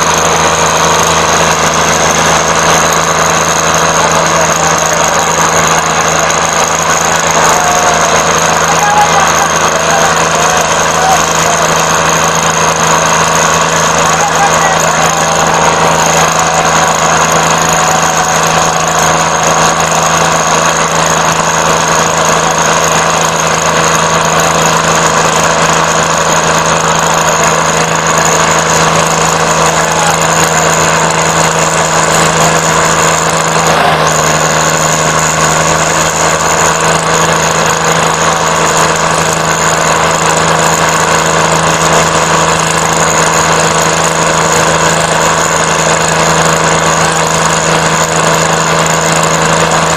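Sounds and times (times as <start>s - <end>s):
diesel tractor engines at full throttle: 0.0s - 49.9s.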